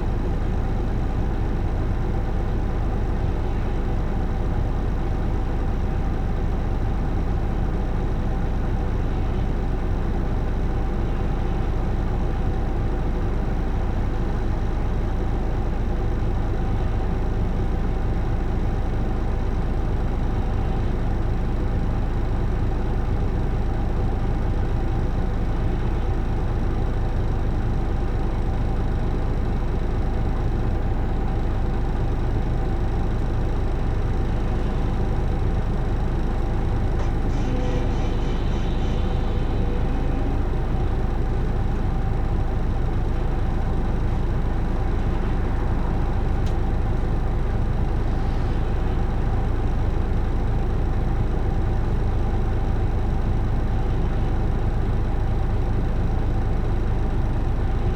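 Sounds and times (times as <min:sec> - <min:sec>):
bus diesel engine droning: 0:00.0 - 0:57.9.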